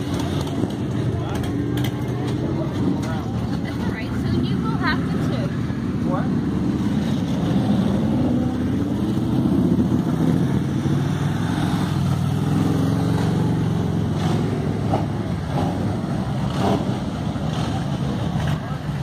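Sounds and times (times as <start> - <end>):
motorcycle engines passing slowly: 0.0 - 19.0.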